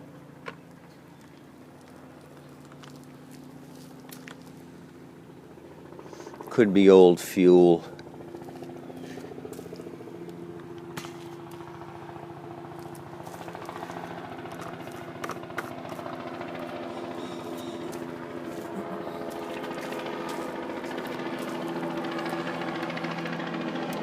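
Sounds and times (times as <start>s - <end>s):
lawn mower engine running: 3.1s - 24.0s.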